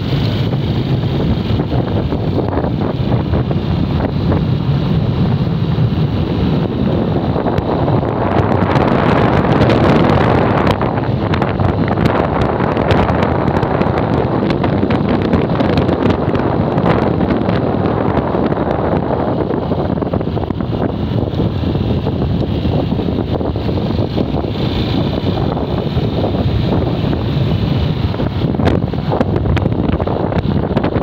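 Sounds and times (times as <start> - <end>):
motorcycle engine running: 0.0 - 31.0
wind buffeting microphone: 0.0 - 31.0.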